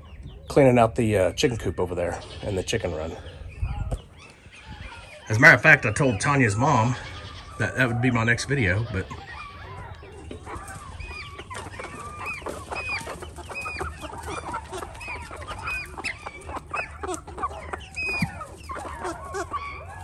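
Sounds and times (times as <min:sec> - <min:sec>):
chickens calling: 0:00.0 - 0:20.0.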